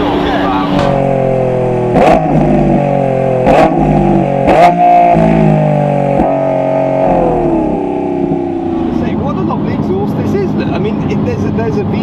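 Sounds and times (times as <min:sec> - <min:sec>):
exhaust cracks: 0:00.0 - 0:12.0
sports car engine howl: 0:00.0 - 0:12.0.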